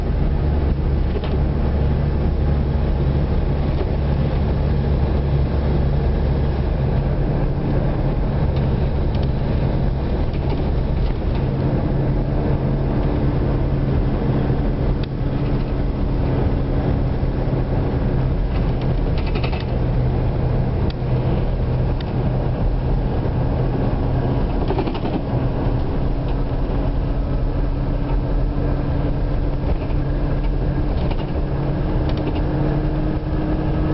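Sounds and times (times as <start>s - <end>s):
boat engine humming: 0.0s - 33.9s.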